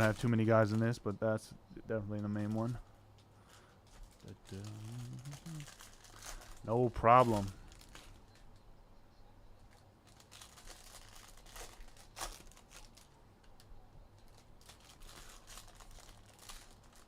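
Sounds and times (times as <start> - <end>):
plastic packaging crinkling: 0.0 - 1.2, 2.2 - 8.6, 9.6 - 17.0.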